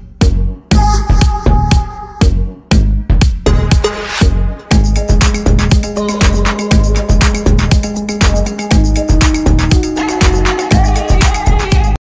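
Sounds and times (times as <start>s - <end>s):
dance music with synths: 0.0s - 12.0s.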